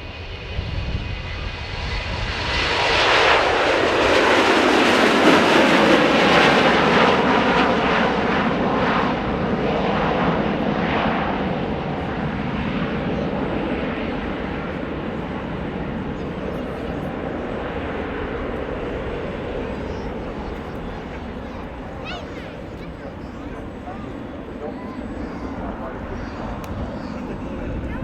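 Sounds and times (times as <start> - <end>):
aircraft engine roar: 0.0 - 28.0.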